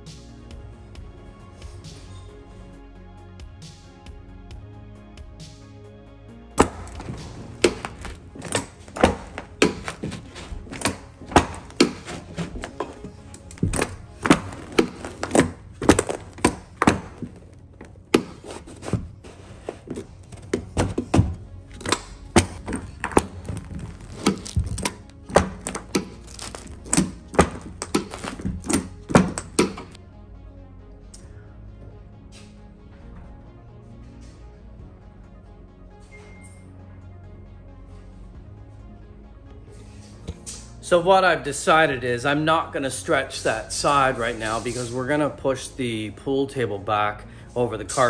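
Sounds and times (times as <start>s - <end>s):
background music: 0.0s - 48.0s.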